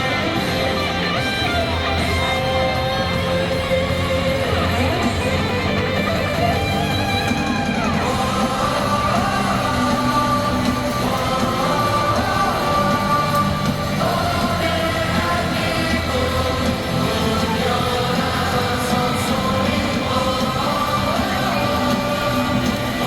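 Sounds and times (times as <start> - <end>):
electric guitar strumming: 0.0 - 23.0
rock band music: 0.0 - 23.0.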